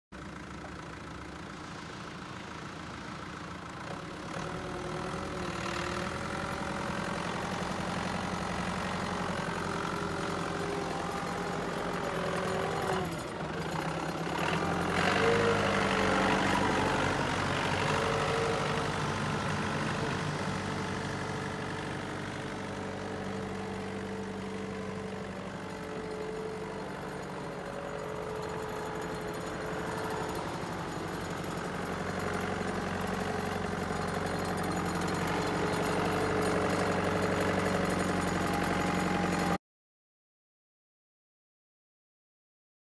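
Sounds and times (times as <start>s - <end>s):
forklift engine running: 0.2s - 39.6s.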